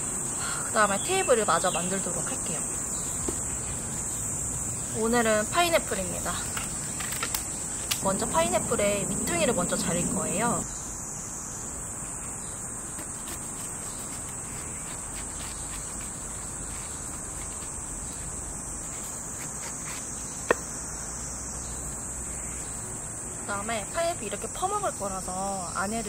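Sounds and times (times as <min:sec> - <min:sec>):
insects chorus: 0:00.0 - 0:26.0.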